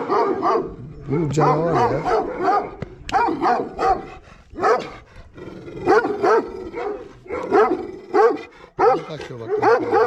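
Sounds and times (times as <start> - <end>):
dog barking: 0.0 - 5.0, 5.8 - 10.0.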